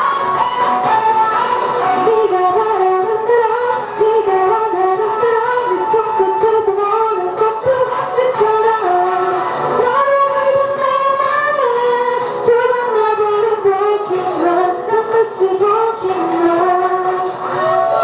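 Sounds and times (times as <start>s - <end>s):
woman singing into microphone: 0.0s - 18.0s.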